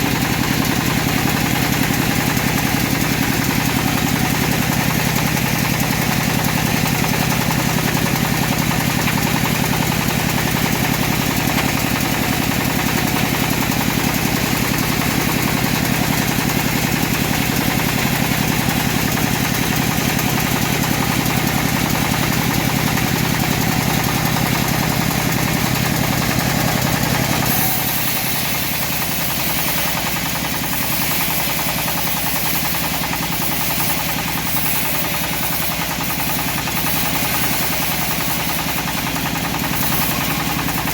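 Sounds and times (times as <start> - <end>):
sawmill engine humming: 0.0 - 40.9.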